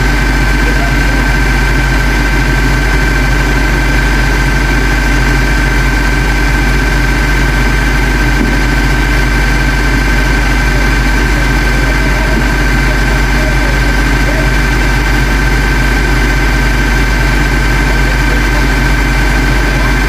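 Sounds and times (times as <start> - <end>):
thin steady whine: 0.0 - 20.0
truck engine deep rumble: 0.0 - 20.0.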